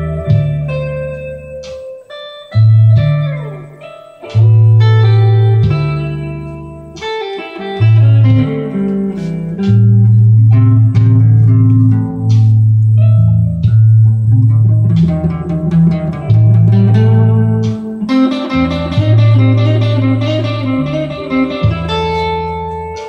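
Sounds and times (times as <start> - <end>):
electric guitar blues licks: 0.0 - 23.0
low guitar notes ringing: 0.0 - 23.0.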